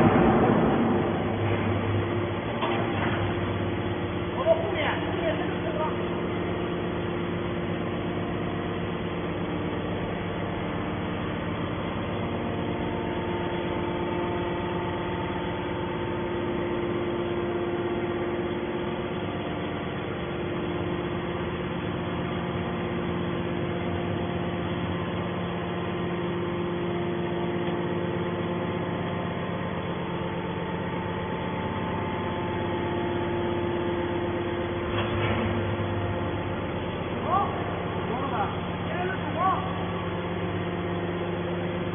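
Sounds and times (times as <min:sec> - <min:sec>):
baler mechanical hum: 0:00.0 - 0:41.9.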